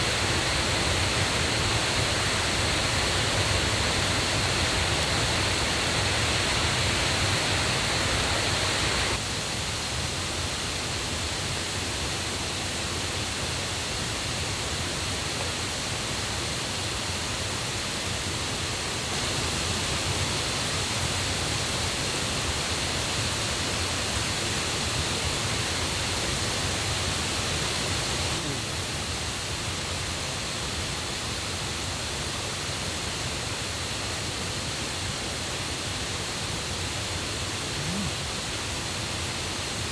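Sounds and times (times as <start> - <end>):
rushing stream and waterfall: 0.0 - 37.6.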